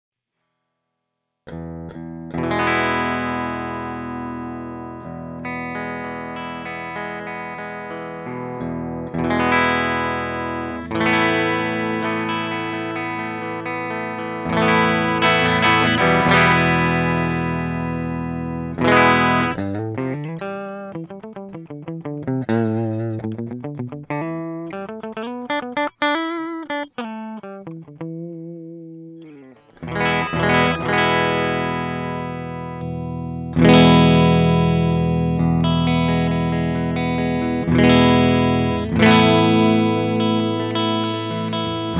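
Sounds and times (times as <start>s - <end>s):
distorted electric guitar chords: 1.5s - 41.9s
guitar single notes with bends: 1.5s - 41.9s.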